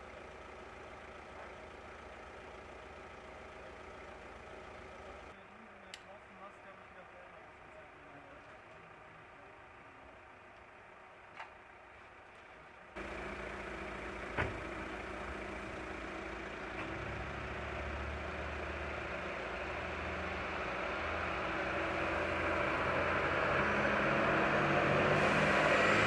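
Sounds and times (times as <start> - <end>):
vehicle engine running: 0.0 - 5.4, 7.0 - 26.0.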